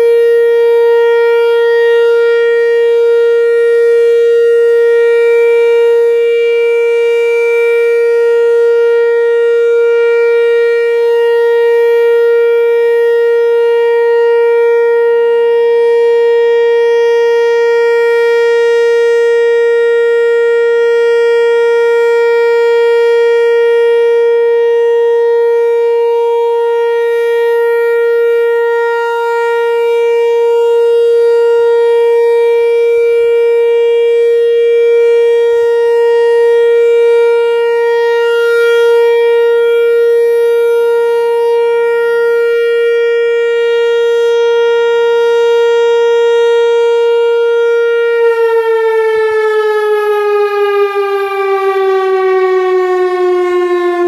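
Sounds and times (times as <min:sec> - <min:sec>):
electronic siren tone: 0:00.0 - 0:54.0.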